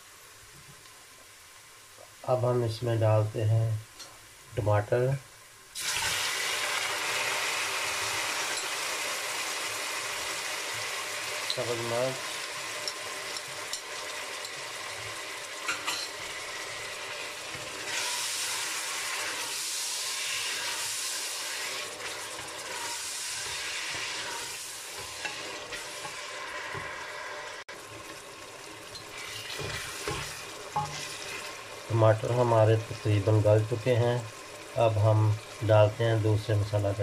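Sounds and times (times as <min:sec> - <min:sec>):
vegetables sizzling in hot oil: 0:00.0 - 0:02.2, 0:05.3 - 0:37.0.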